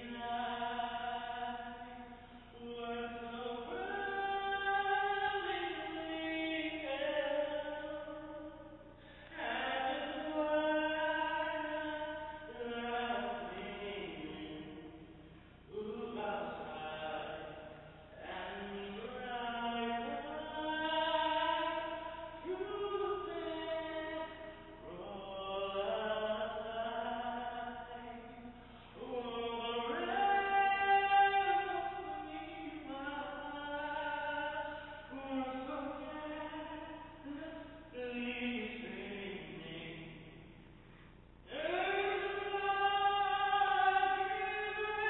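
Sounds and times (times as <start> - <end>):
person singing a cappella: 0.0 - 40.6, 41.4 - 45.0.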